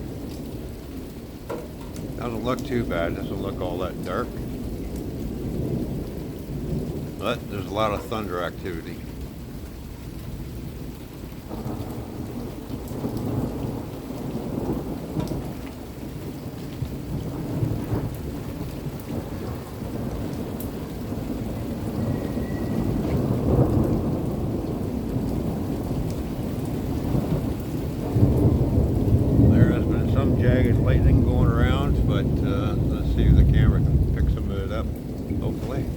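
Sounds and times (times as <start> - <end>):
steady falling rain: 0.0 - 35.9
thunder rumbling: 0.0 - 35.9.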